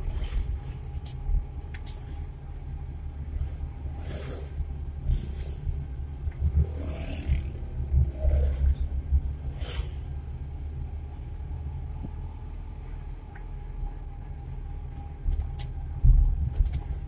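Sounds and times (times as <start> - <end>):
engine and road rumble in cab: 0.0 - 17.0.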